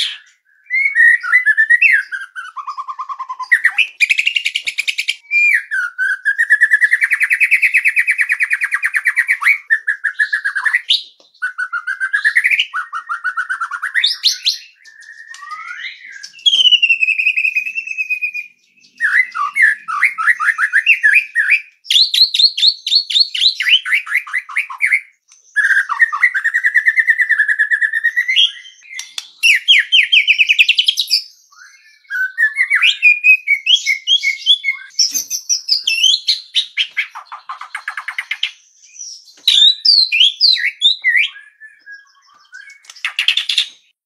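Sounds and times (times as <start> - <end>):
songbird singing trills and whistles: 0.0 - 43.9.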